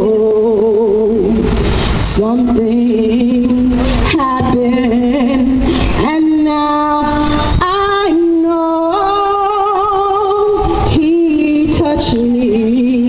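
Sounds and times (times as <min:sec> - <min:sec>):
woman singing through loudspeaker: 0:00.0 - 0:13.0.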